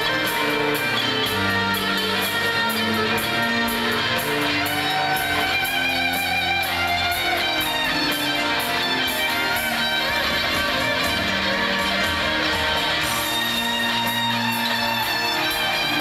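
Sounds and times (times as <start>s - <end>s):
bass: 0.0s - 16.0s
drums: 0.0s - 16.0s
electric guitar lead line: 0.0s - 16.0s
sustained organ chords: 0.0s - 16.0s.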